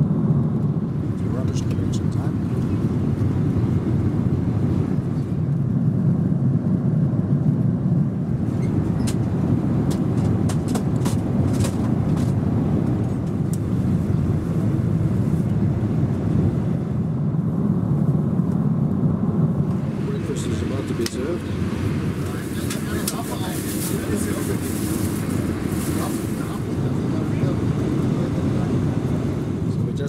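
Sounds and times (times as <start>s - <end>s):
airplane cabin engine roar: 0.0s - 30.0s.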